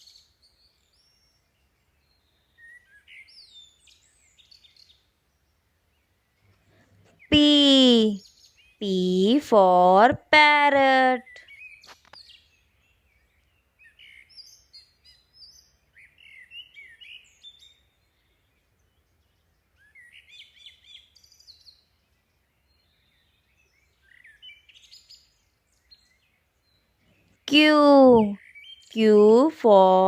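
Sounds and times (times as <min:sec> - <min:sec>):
faint bird chirps: 0:00.0 - 0:09.7, 0:10.8 - 0:30.0.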